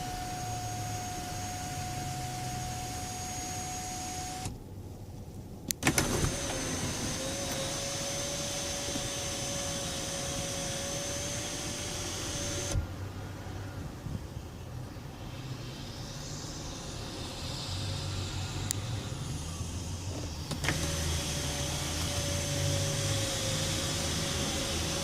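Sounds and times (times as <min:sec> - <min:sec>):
small electric motor whining: 0:00.0 - 0:04.6, 0:05.8 - 0:12.9, 0:15.7 - 0:25.0.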